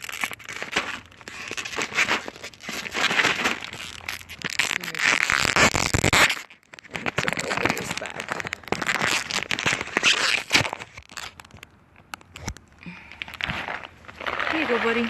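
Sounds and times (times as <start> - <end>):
plastic crinkling: 0.0 - 15.0.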